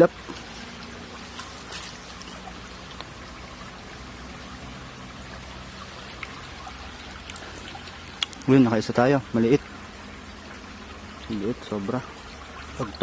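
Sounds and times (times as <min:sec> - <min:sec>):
river water over rocks: 0:00.0 - 0:13.0.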